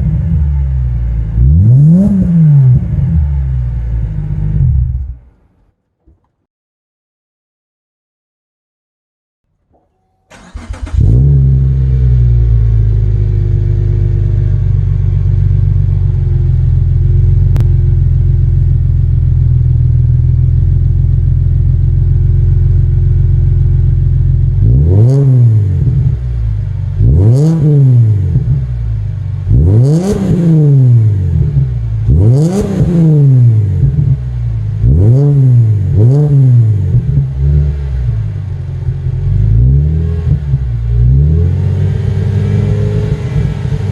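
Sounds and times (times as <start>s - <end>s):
car engine revving: 0.0s - 5.4s, 10.3s - 19.2s, 21.7s - 43.9s
car engine starting and idling: 0.0s - 6.4s, 9.6s - 43.9s.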